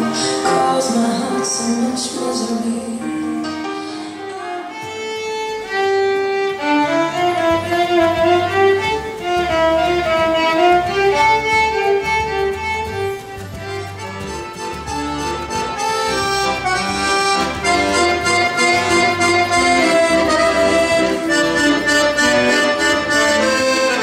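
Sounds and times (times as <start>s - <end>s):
lower accompanying notes: 0.0s - 24.0s
violin melody: 0.0s - 24.0s.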